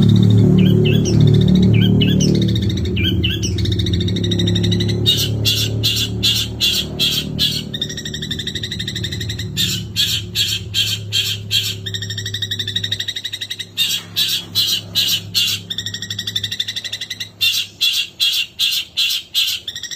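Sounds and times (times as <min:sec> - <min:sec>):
bird chattering and trilling: 0:00.0 - 0:19.9.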